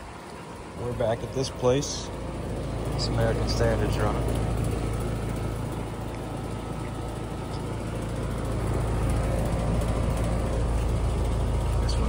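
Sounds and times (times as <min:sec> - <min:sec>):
air conditioner compressor hum: 0:00.0 - 0:12.0
condenser fan air rushing: 0:00.0 - 0:12.0.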